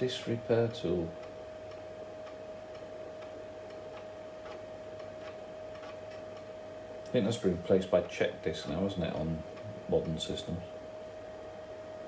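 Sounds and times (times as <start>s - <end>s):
floppy drive head ticking: 0.0s - 10.4s
steady high machine hum: 0.0s - 12.0s.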